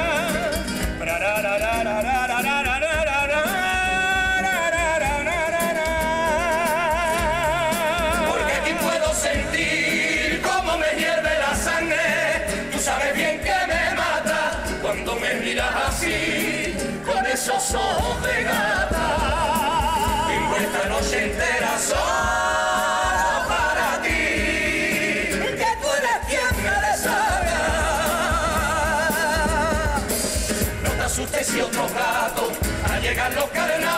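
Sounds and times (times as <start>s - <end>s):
bass drum and snare beat: 0.0s - 33.9s
strummed guitars: 0.0s - 33.9s
choir singing in harmony: 6.6s - 33.9s.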